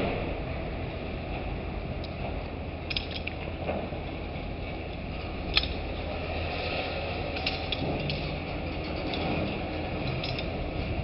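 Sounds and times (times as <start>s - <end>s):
crane hoist machinery running: 0.0s - 11.0s.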